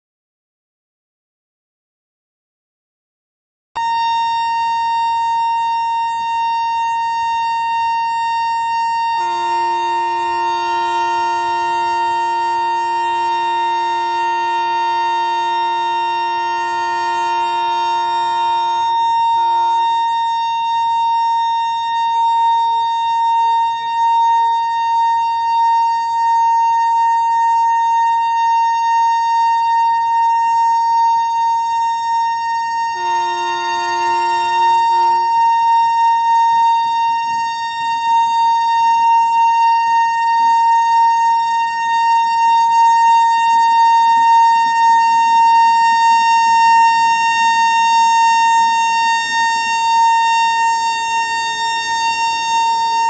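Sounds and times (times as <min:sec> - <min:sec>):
train air horn blast: 0:03.8 - 0:26.7, 0:29.9 - 0:53.0.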